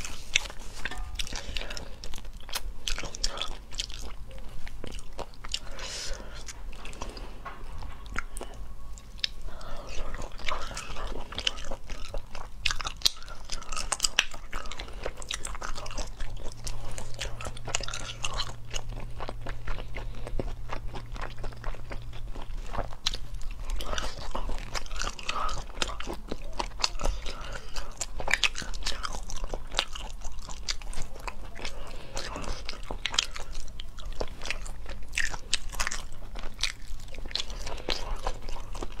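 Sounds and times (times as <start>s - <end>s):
wet chewing and biting: 0.0s - 39.0s.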